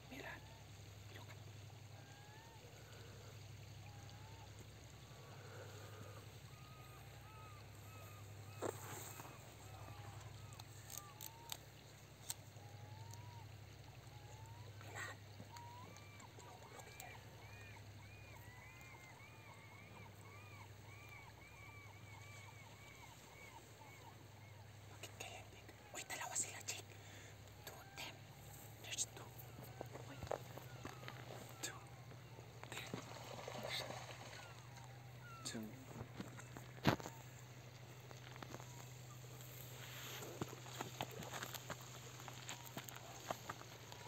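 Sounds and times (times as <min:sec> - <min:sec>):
faint flowing river water: 0:00.0 - 0:44.0
steady low hum: 0:00.0 - 0:44.0.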